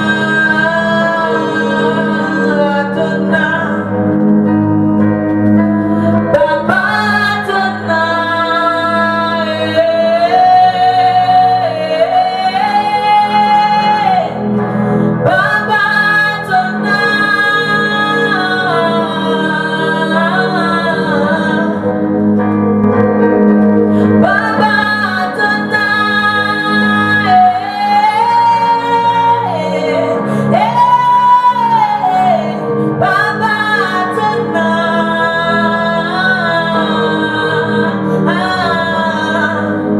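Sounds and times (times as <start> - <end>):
person singing gospel song: 0.0 - 4.3, 5.7 - 22.1, 23.9 - 39.9.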